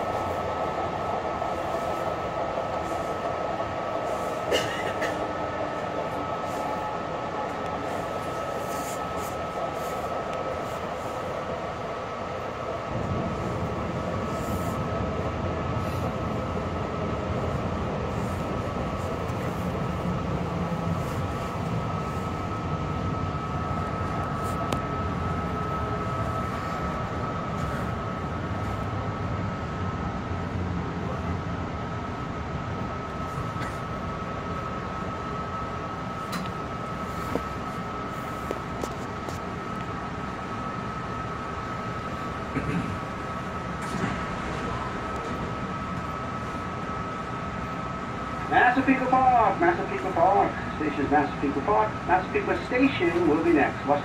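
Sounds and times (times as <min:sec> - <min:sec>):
deep rumble of train on bridge: 0:00.0 - 0:54.0
train running on rails: 0:00.0 - 0:54.0.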